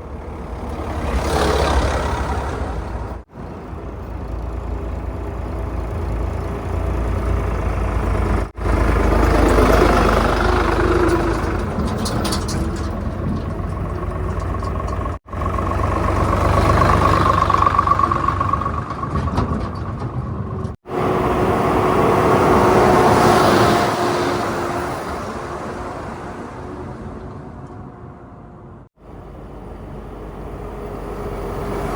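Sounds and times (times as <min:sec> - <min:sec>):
heavy diesel engines revving: 0:00.0 - 0:28.0, 0:29.1 - 0:31.9.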